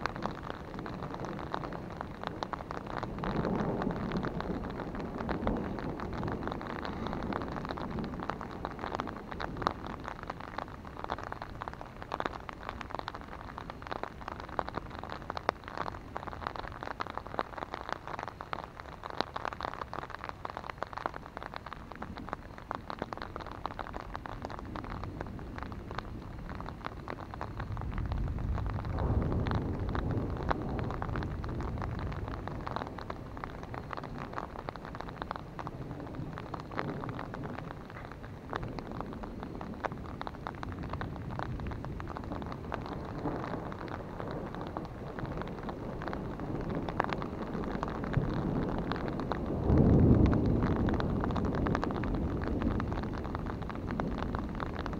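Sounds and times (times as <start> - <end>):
rain on an umbrella: 0.0 - 54.9
thunder rumbling: 0.0 - 54.9.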